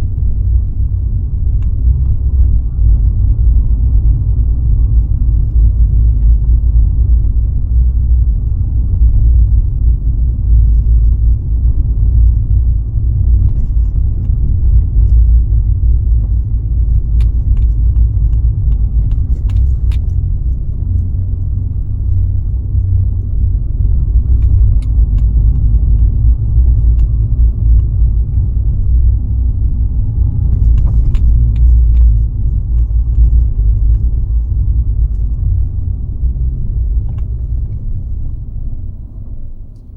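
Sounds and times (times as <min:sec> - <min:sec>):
car road rumble: 0:00.0 - 0:39.9.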